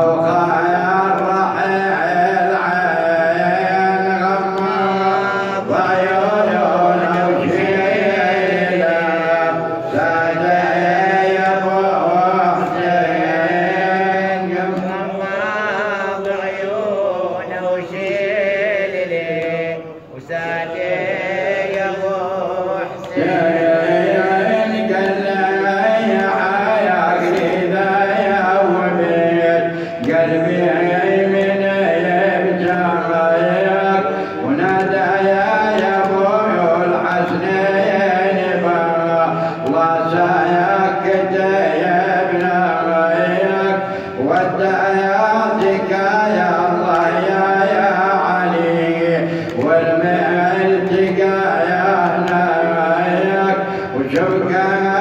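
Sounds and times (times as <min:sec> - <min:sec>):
man chanting a lament: 0:00.0 - 0:55.0.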